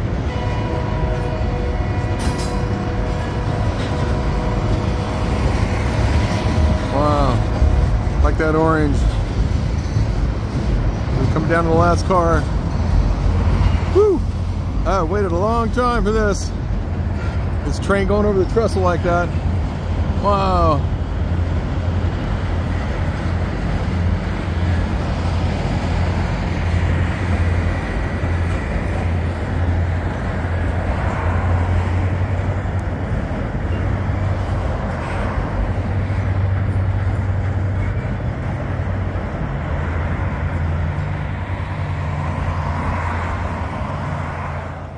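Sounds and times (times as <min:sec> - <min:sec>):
freight train rolling over bridge: 0:00.0 - 0:44.9
road traffic passing: 0:00.0 - 0:44.9.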